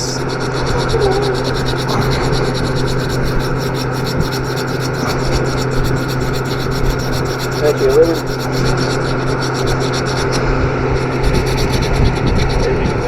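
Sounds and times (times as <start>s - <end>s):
sanding cloth scrubbing copper pipe: 0.0s - 13.0s.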